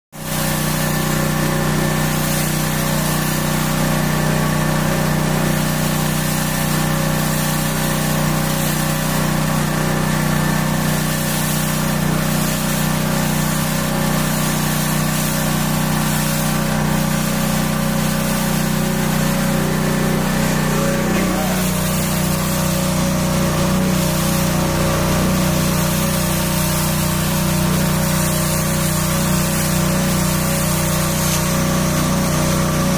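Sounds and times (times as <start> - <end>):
pressure washer machine hum: 0.2 - 32.9
water jet hissing: 0.2 - 32.9.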